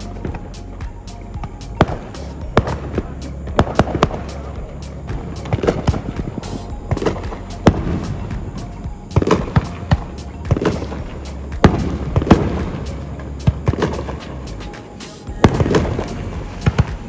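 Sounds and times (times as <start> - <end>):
background music: 0.0 - 17.0
fireworks bangs: 1.4 - 14.2, 15.2 - 17.0.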